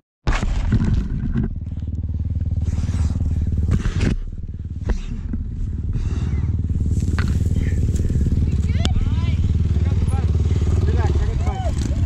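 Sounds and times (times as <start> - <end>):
motorcycle engine idling: 1.4 - 12.0.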